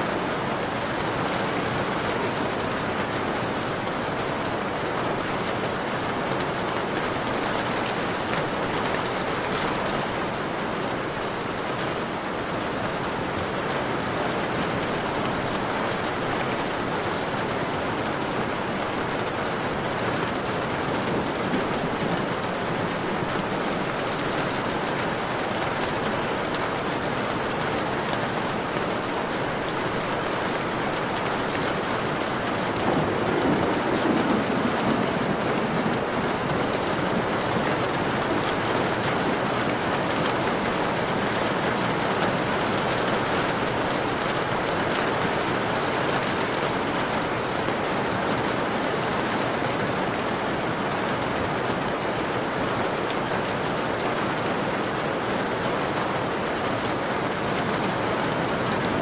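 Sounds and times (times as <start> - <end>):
rain on window: 0.0 - 59.0.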